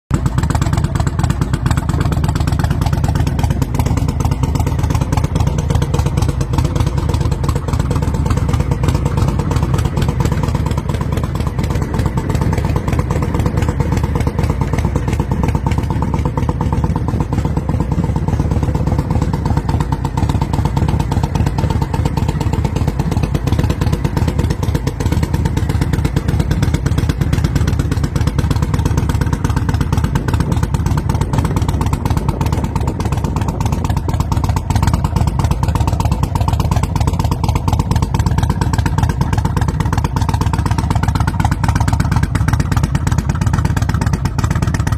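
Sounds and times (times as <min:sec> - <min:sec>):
motorcycle engine running: 0:00.1 - 0:44.9.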